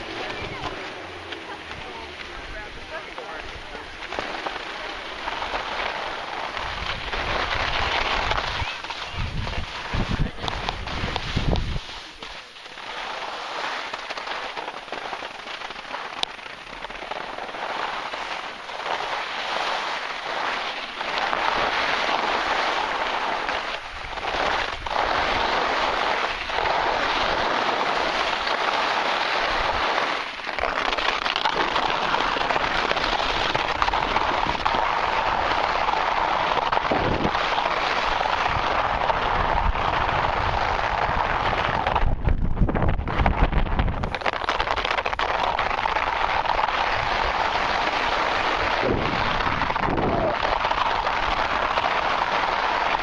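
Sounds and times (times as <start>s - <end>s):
skis scraping over snow: 0.0s - 53.0s.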